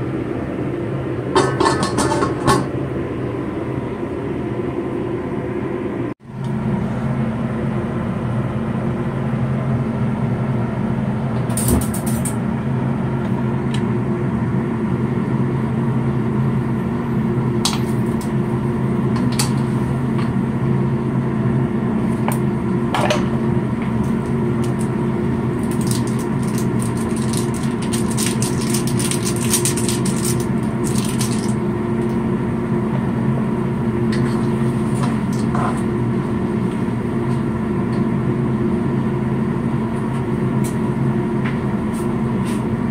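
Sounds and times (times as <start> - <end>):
low mechanical hum: 0.0 - 42.9.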